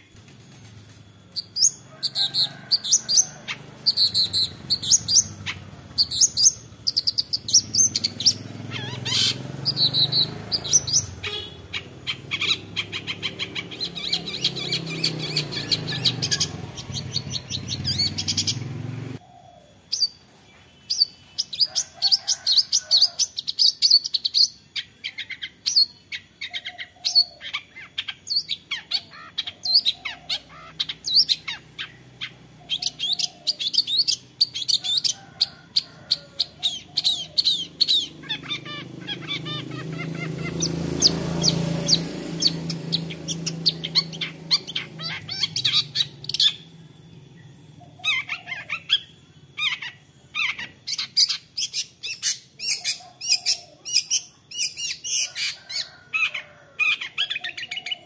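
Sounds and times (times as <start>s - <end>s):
bird calling sharp notes: 0.0s - 20.2s, 21.0s - 58.0s.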